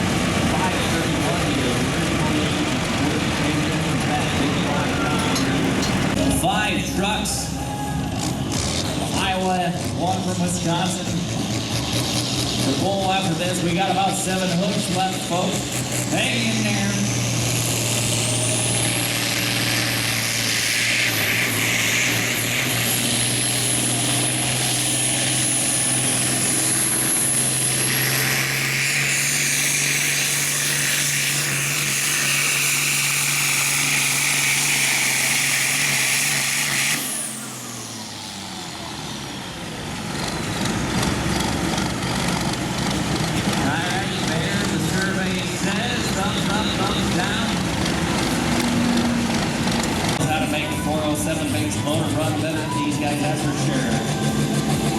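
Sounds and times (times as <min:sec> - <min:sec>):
diesel tractor at full throttle: 0:00.0 - 0:54.9.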